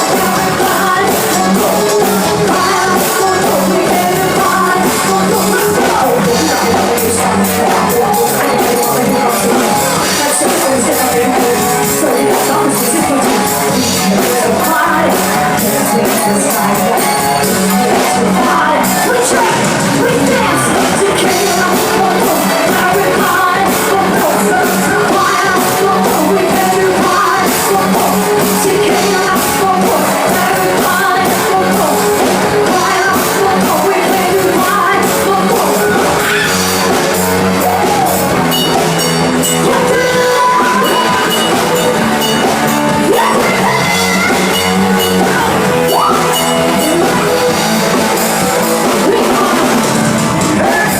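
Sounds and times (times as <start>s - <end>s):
rock music with singing: 0.0s - 50.9s.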